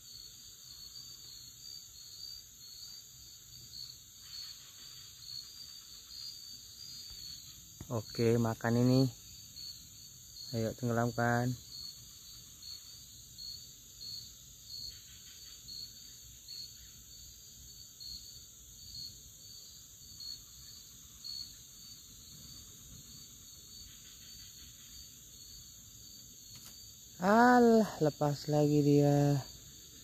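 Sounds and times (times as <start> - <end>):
continuous high insect buzz: 0.0 - 30.0
insects chirping: 0.0 - 30.0.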